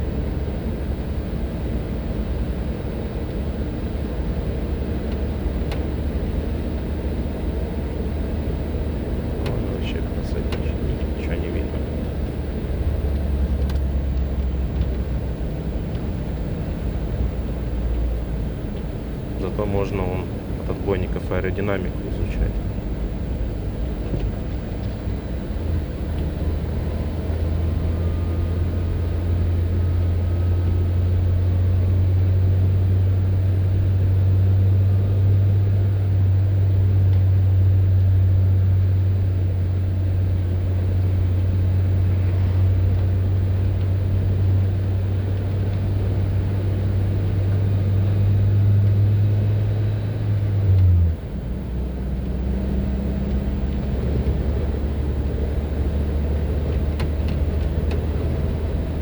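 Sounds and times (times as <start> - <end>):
car driving on highway: 0.0 - 59.0.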